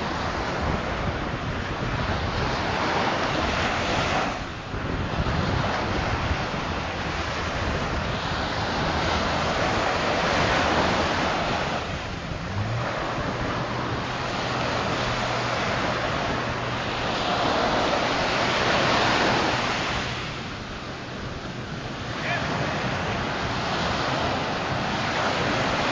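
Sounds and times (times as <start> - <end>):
surf breaking on shore: 0.0 - 25.9
wind buffeting microphone: 0.0 - 25.9.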